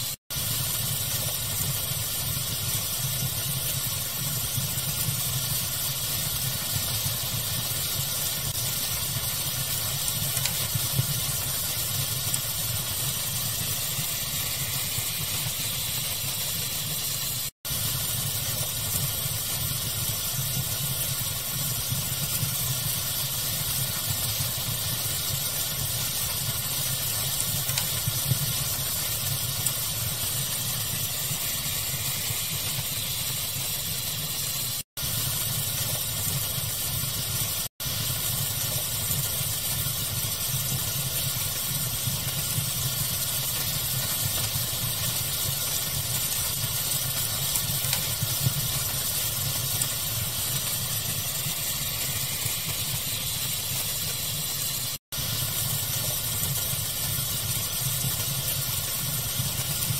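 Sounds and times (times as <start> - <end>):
faint fire crackles: 0.0 - 59.9
fire hiss: 0.0 - 59.9.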